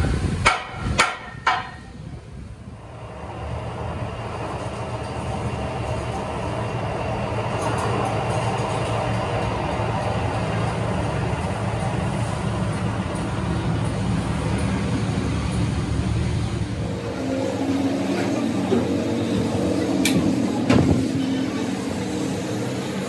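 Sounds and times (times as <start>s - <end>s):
lathe motor running: 2.8s - 23.0s.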